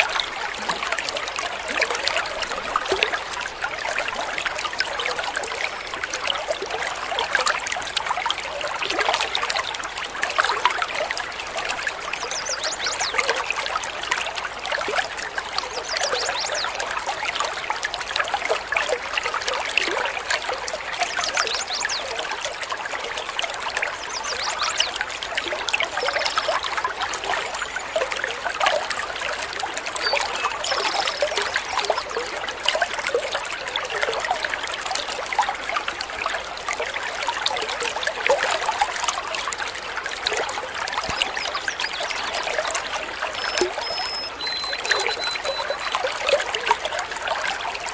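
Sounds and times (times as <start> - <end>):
water trickling and splashing: 0.0 - 47.9.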